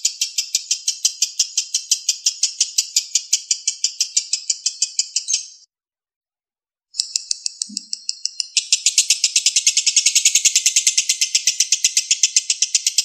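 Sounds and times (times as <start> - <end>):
lovebird chattering: 0.0 - 5.6, 7.0 - 13.0.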